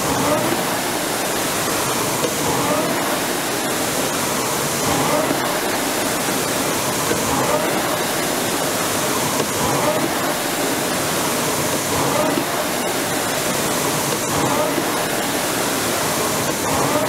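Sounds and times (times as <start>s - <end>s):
rowing machine flywheel whooshing: 0.0s - 17.0s.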